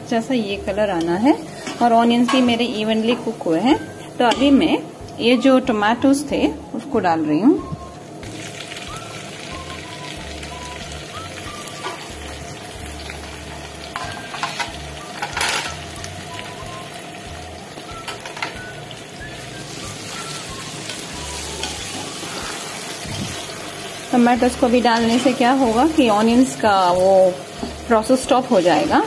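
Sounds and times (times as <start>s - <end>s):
onions and tomatoes sizzling: 0.0s - 29.0s.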